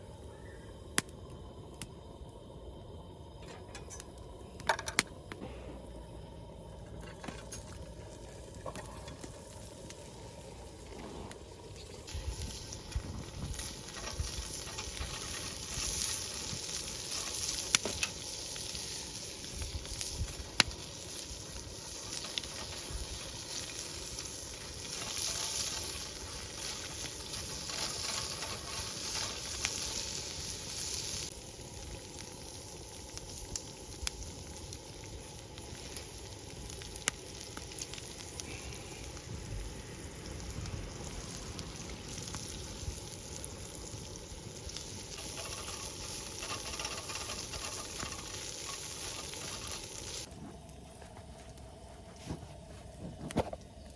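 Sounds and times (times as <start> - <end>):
food sizzling in a pan: 7.1 - 50.3.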